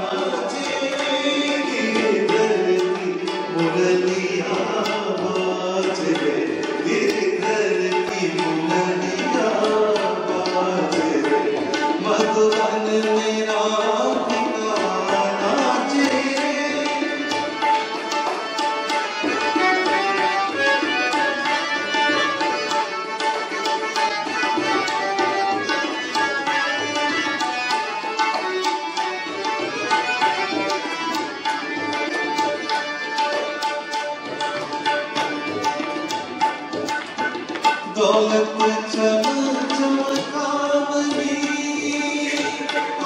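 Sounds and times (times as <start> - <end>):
harmonium melody: 0.0 - 43.0
tabla drumming: 0.0 - 43.0.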